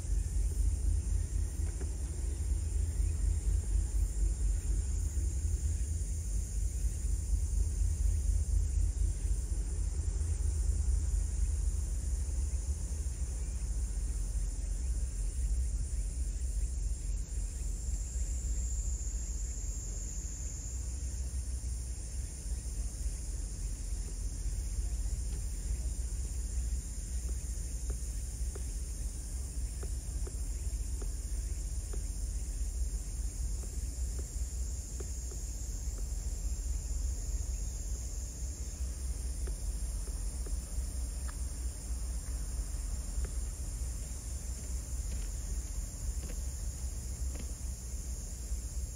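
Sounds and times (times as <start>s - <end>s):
insects chirring: 0.0s - 48.9s
steady low rumble: 0.0s - 48.9s.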